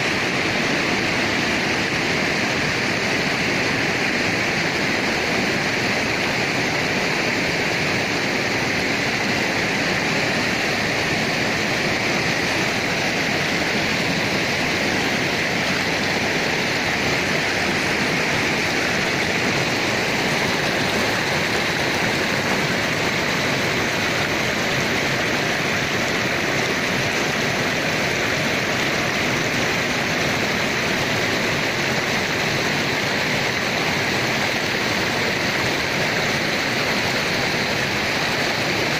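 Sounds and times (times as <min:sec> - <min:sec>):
river rushing over boulders: 0:00.0 - 0:38.9.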